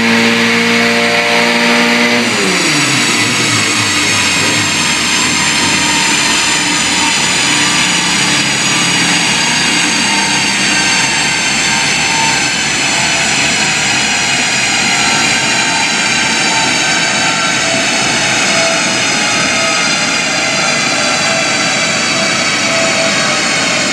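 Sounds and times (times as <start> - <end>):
engine and gearbox whining: 0.0 - 23.9.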